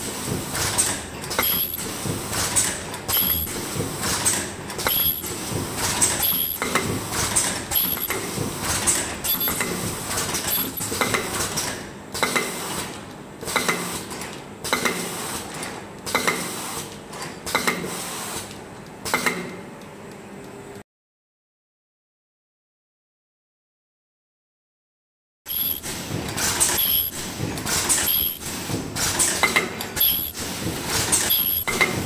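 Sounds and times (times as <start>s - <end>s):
machine clattering and clicking: 0.0s - 19.6s, 25.5s - 32.0s.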